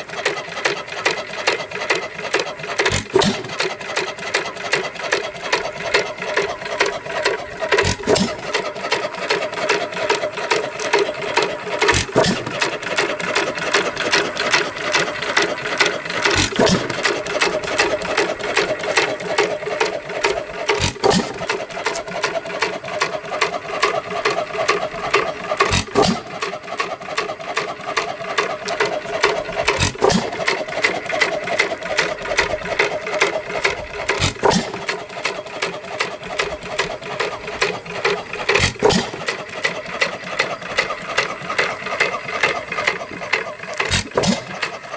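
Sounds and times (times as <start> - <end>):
hit-and-miss engine clattering: 0.0 - 44.9.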